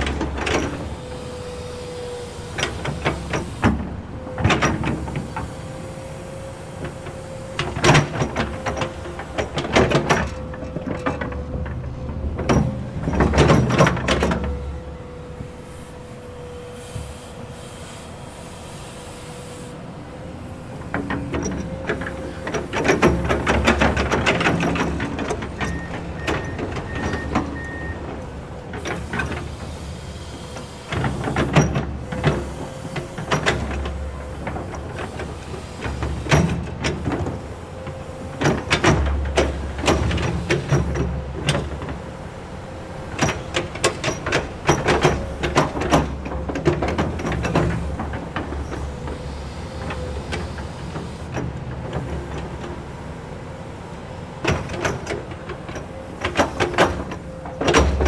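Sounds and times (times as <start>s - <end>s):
excavator engine rumbling: 0.0s - 58.0s.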